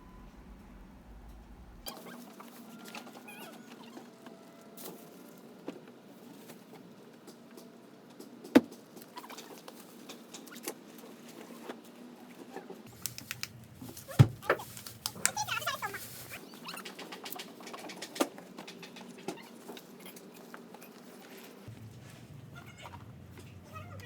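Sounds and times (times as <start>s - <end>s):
rustling of objects handled: 1.2s - 24.0s.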